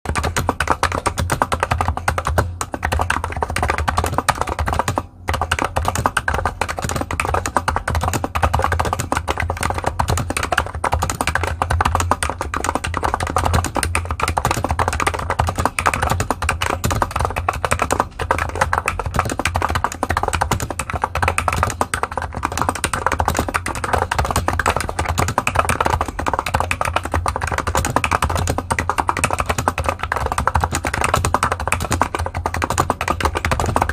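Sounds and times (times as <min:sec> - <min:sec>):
keyboard typing clicks: 0:00.1 - 0:33.9.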